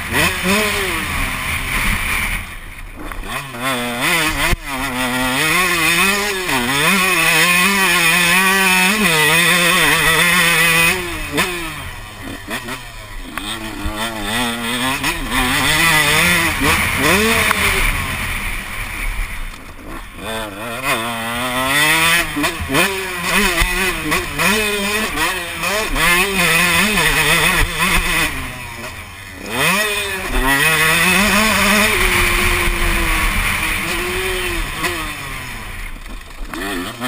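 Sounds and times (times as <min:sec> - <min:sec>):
motocross bike engine revving: 0:00.0 - 0:37.0.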